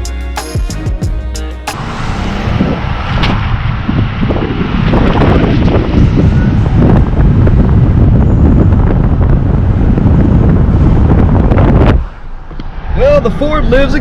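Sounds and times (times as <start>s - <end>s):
wind rumble on microphone: 1.8s - 14.0s.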